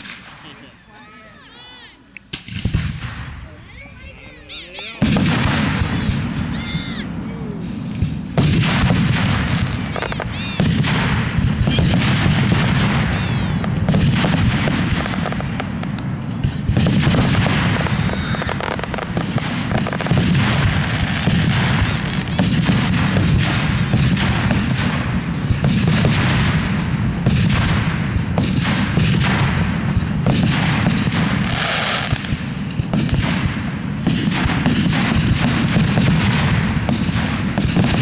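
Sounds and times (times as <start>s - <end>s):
fireworks booming and crackling: 0.0s - 38.0s
whistling firework shells: 0.0s - 38.0s.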